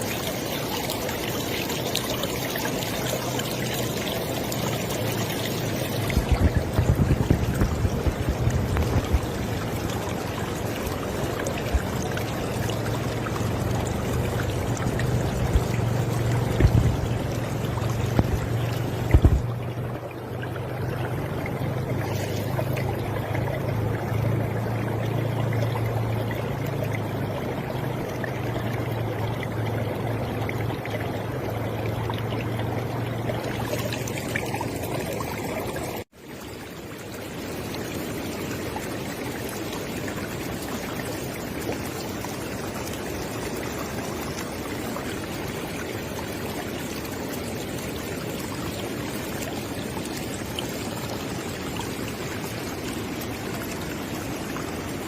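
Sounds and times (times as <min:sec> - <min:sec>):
river water flowing: 0:00.0 - 0:55.0
water splashes: 0:00.0 - 0:55.0.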